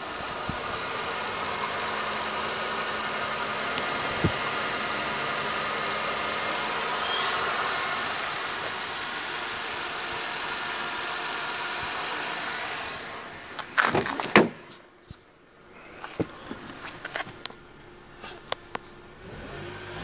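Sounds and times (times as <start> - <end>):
car engine idling: 0.0 - 14.2, 14.8 - 20.0.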